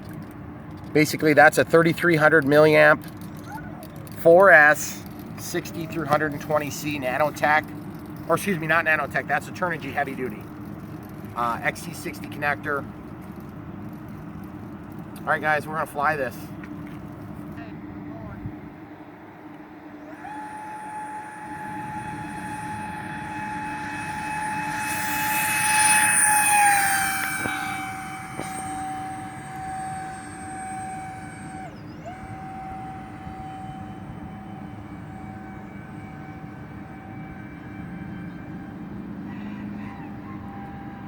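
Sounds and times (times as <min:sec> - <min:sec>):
electric ducted fans whining: 0:00.0 - 0:41.0.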